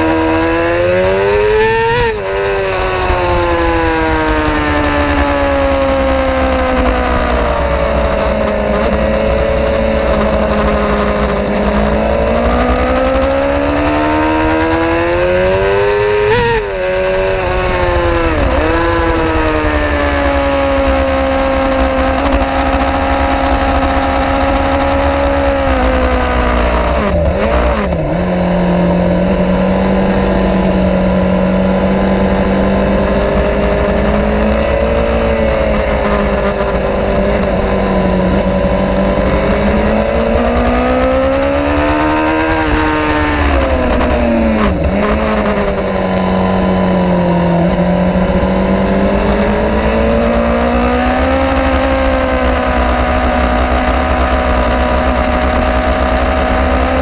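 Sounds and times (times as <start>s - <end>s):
motorcycle engine at high revs: 0.0s - 57.0s
wind noise: 0.0s - 57.0s.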